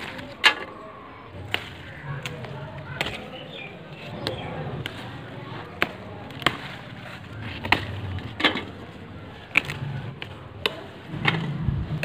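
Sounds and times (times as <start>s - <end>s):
leaves rustling: 0.0s - 12.0s
okra pods snapping off stalks: 1.4s - 11.5s.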